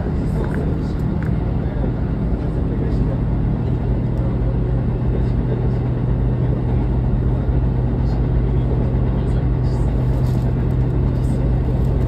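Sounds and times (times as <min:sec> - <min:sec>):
steady low hum: 0:00.0 - 0:12.0
train wheels rumbling on rail: 0:00.0 - 0:12.0.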